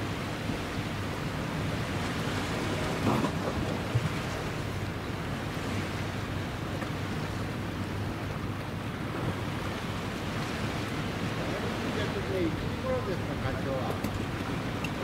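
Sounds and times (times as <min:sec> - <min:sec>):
sea waves washing: 0:00.0 - 0:15.0
wind rumbling on the microphone: 0:00.0 - 0:15.0.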